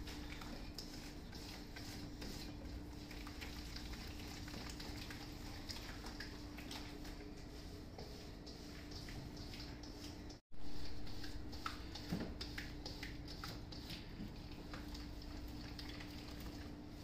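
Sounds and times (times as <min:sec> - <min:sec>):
wet stirring in a bowl: 0:00.0 - 0:17.0.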